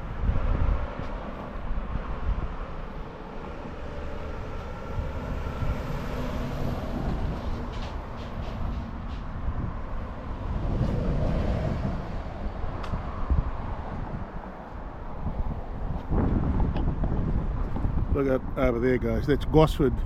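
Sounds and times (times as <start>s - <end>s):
passing vehicle rumble: 0.0s - 18.6s.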